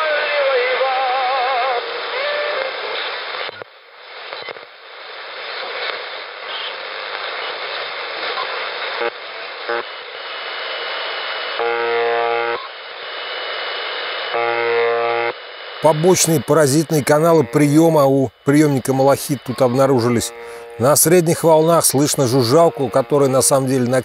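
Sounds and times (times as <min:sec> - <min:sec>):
radio buzzes: 0:00.0 - 0:24.0
radio static hiss: 0:00.0 - 0:24.0.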